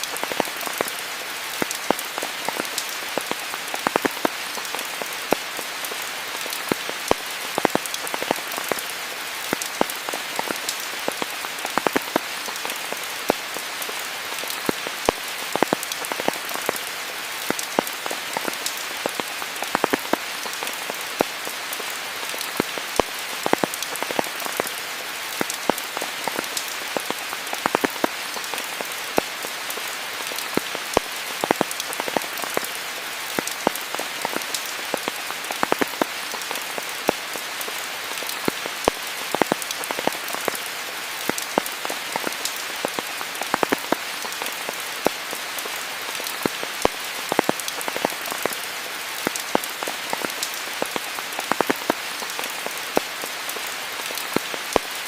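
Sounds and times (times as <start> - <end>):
sharp raindrop impacts: 0.0 - 55.0
steady rain hiss: 0.0 - 55.0.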